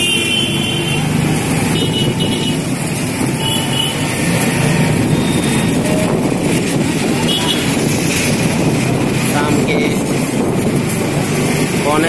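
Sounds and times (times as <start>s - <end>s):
engine rumble: 0.0s - 12.0s
road noise: 0.0s - 12.0s.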